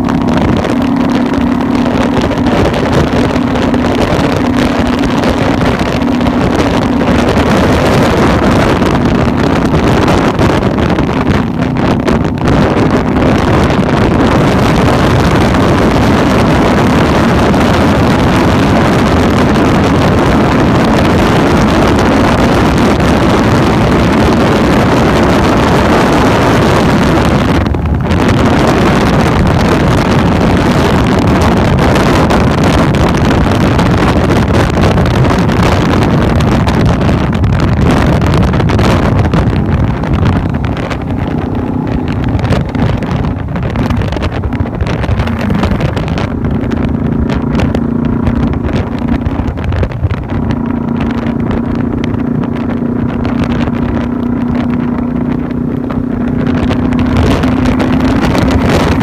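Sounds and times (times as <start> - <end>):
motorcycle engine drone: 0.0 - 59.0
wind rushing over microphone: 0.0 - 59.0.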